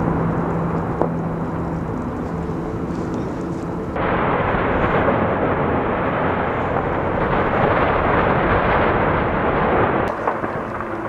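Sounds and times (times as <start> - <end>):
volcanic eruption rumble: 0.0 - 11.0.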